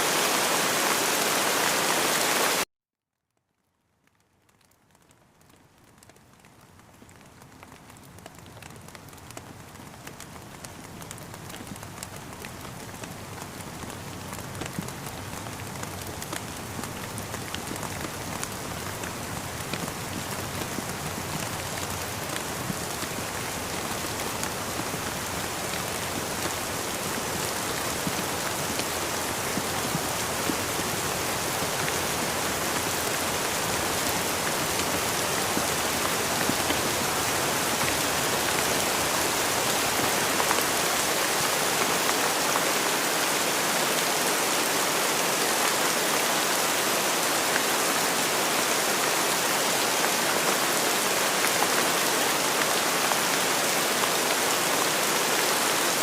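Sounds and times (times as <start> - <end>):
steady rain with drop taps: 0.0 - 2.7, 3.4 - 56.0.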